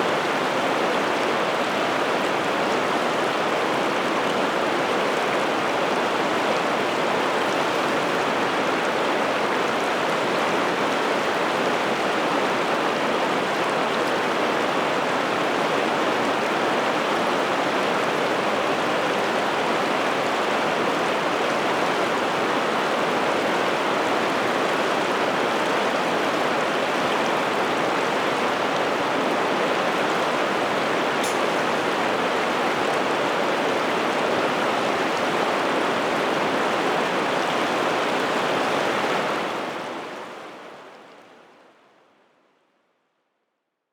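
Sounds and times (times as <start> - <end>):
river water flowing: 0.0 - 41.6.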